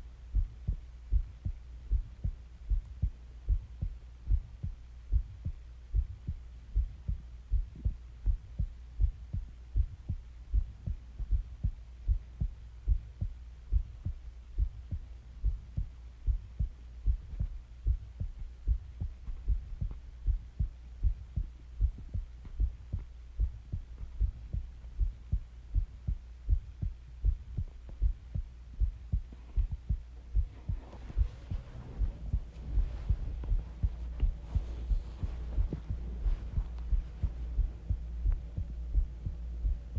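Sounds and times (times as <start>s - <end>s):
constant low hum: 0.0s - 39.9s
heartbeat thumps: 0.0s - 39.9s.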